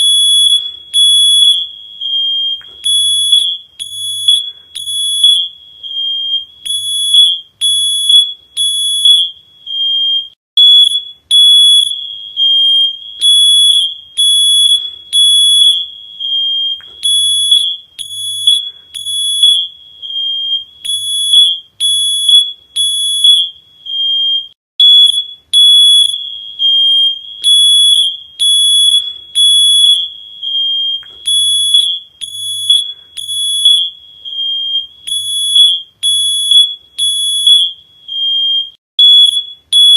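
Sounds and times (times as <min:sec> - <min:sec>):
high-pitched electronic alarm beeping: 0:00.0 - 0:39.9.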